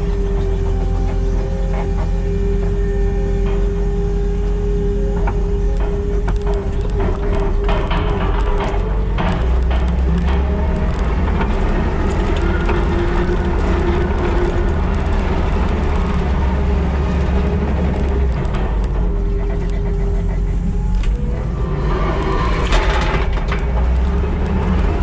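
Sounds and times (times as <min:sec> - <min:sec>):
skid steer engine droning: 0:00.0 - 0:25.0.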